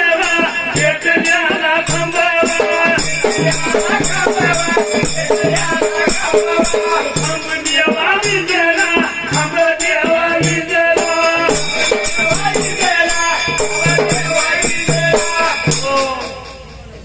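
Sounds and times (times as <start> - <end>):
metallic rattling percussion: 0.0 - 17.0.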